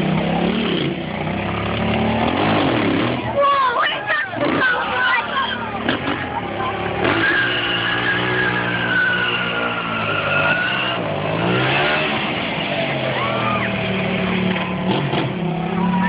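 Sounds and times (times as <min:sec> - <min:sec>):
motorcycle engine revving high: 0:00.0 - 0:03.5, 0:04.2 - 0:16.0.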